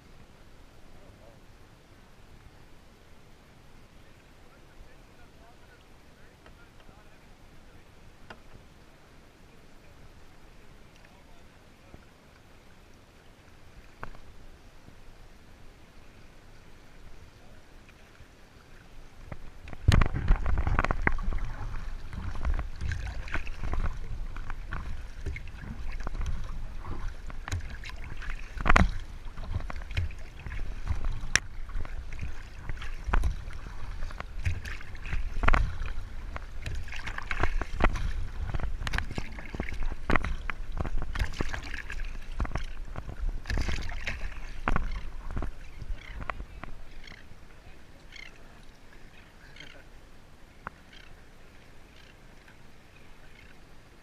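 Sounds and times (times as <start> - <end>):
water splashing around kayak: 0.0 - 54.0.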